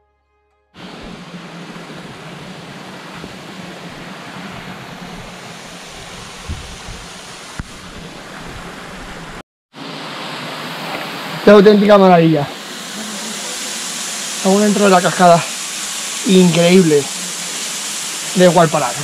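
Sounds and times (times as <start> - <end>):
waterfall rushing: 0.8 - 19.0.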